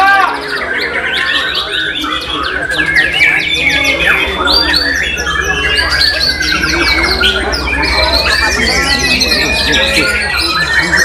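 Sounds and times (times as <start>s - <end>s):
many songbirds singing: 0.0s - 11.0s.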